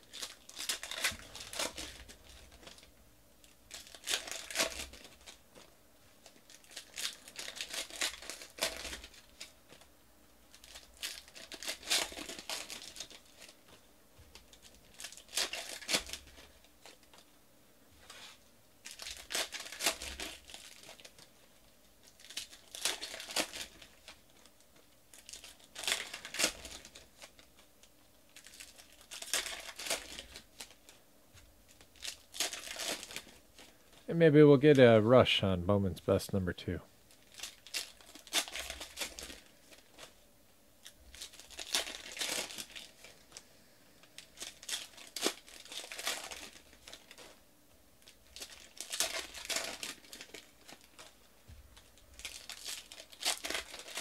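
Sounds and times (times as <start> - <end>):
card pack wrappers tearing and crinkling: 0.0 - 9.9, 10.5 - 17.2, 18.0 - 21.3, 22.0 - 31.0, 31.7 - 34.1, 37.1 - 40.2, 40.8 - 43.4, 44.0 - 47.4, 48.0 - 51.2, 51.8 - 54.0.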